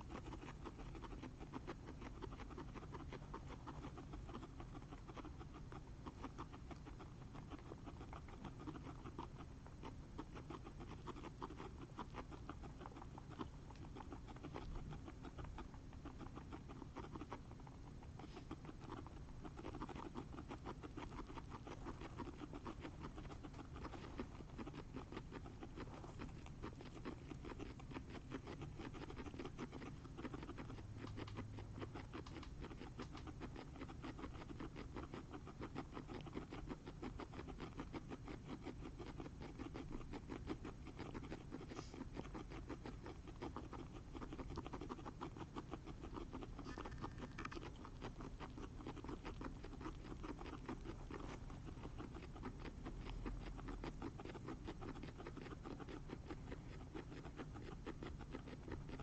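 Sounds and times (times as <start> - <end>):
guinea pigs chewing: 0.0 - 59.0.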